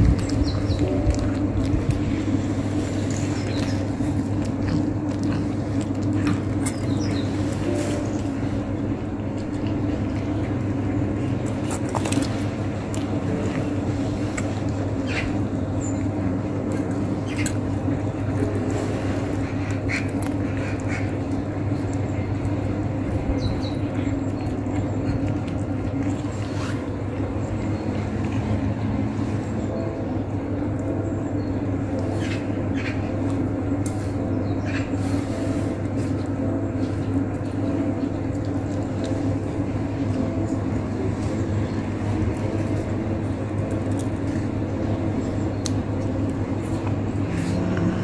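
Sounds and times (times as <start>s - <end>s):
cat chewing and crunching: 0.0s - 29.6s, 35.0s - 48.0s
steady low hum: 0.0s - 48.0s.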